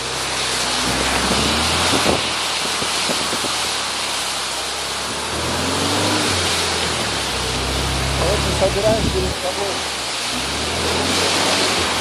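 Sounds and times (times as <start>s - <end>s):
engine running low: 0.0s - 12.0s.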